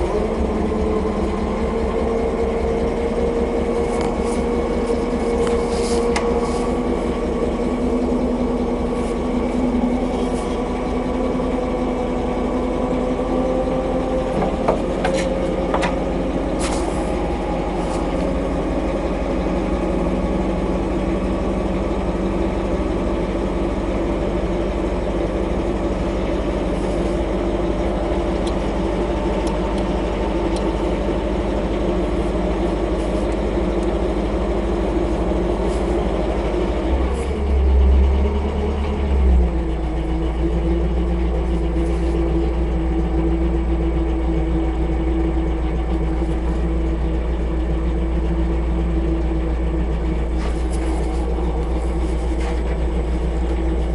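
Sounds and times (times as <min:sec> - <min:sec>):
engine idling inside vehicle: 0:00.0 - 0:53.9.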